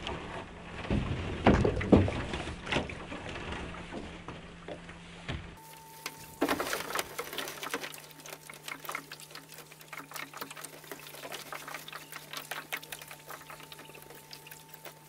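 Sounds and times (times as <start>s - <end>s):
faint steady hum: 2.5s - 15.0s.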